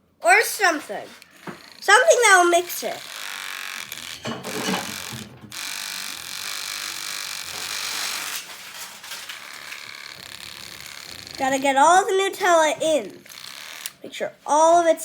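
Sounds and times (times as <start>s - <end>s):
electric milk frother whirring: 0.2s - 14.1s.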